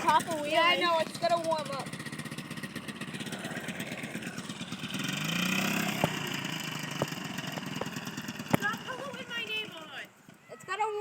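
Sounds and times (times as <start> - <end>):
dirt bike engine idling and revving: 0.0 - 10.9.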